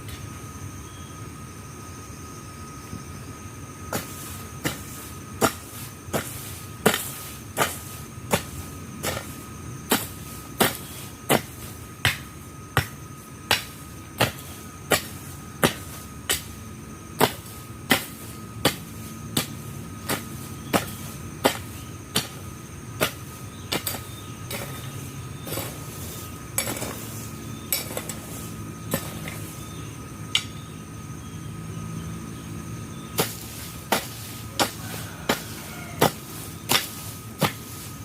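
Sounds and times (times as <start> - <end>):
hand tool chopping ground: 3.9 - 29.6, 33.1 - 38.0.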